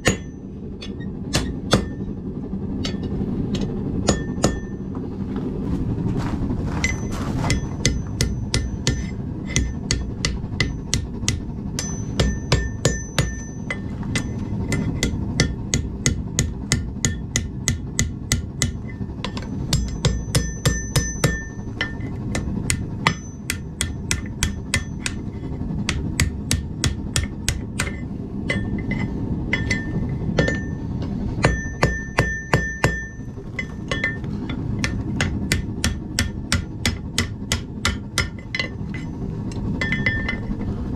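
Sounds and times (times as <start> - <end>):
hammer striking anvil: 0.0 - 2.1, 2.8 - 4.8, 6.8 - 25.2, 25.8 - 30.8, 31.4 - 39.1, 39.8 - 40.6
low rumble: 0.0 - 40.9.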